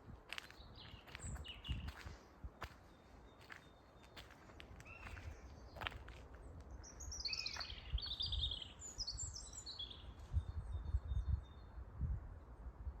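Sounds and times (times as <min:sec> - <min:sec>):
small songbirds chirping: 0:00.4 - 0:12.0.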